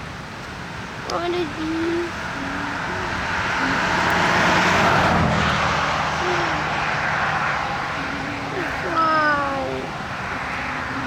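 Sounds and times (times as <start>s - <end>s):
vehicle passing by: 0.6s - 11.0s.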